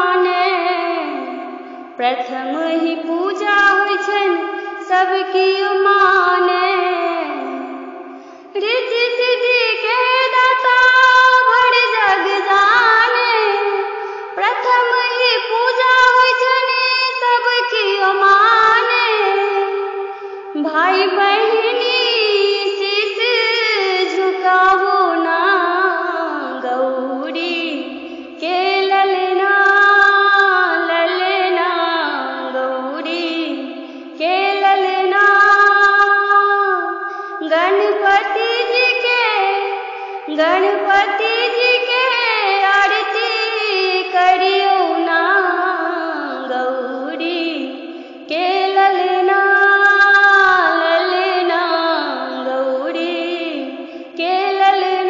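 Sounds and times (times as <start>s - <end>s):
woman singing a hymn: 0.0s - 55.0s.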